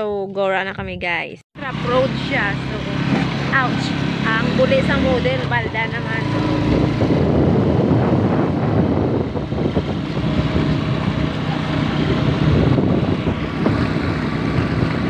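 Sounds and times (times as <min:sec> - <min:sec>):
vehicle engine running: 0:01.6 - 0:15.0
wind noise on microphone: 0:01.9 - 0:15.0.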